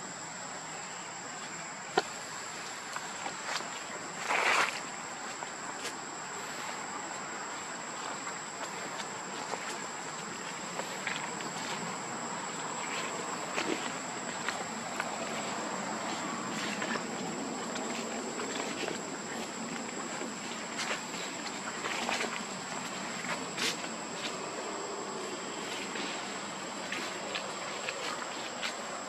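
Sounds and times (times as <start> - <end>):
background hiss: 0.0 - 29.0
insect drone: 0.0 - 29.0.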